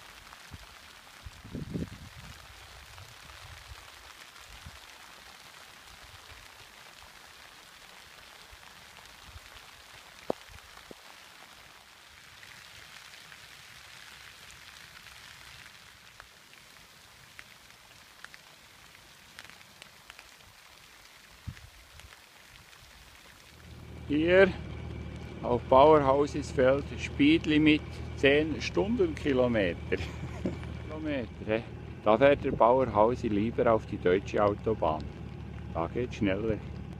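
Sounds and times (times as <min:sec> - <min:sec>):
light rain falling: 0:00.0 - 0:36.9.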